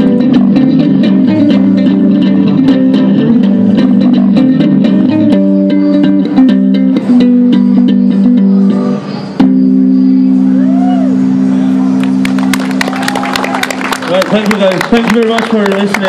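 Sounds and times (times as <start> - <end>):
electric bass guitar: 0.0 - 16.0.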